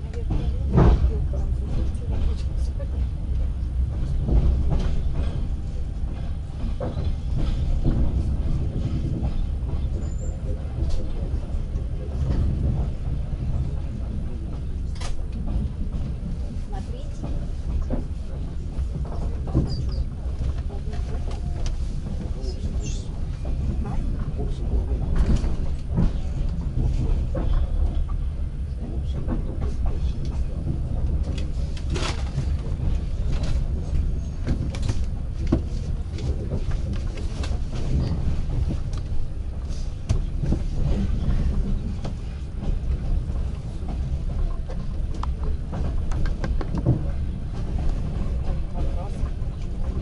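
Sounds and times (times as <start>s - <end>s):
train coach rumble: 0.0s - 50.0s.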